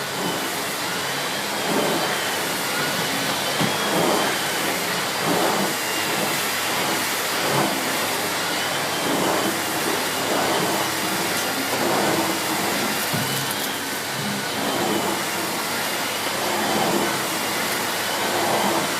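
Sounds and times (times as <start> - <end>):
vacuum cleaner on carpet: 0.0 - 18.9.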